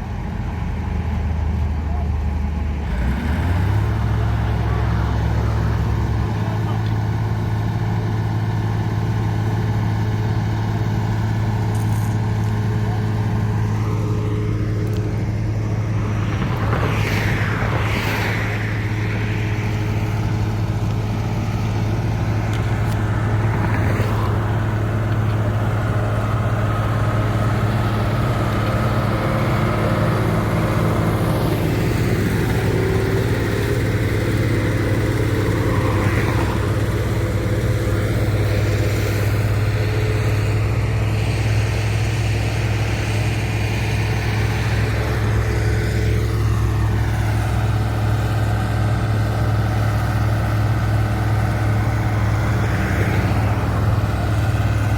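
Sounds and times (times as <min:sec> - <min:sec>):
heavy diesel engine hum: 0:00.0 - 0:54.9.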